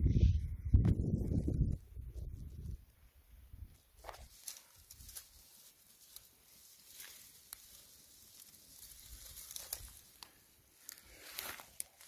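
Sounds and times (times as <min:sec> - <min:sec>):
dry grass rustling: 0:01.0 - 0:12.0.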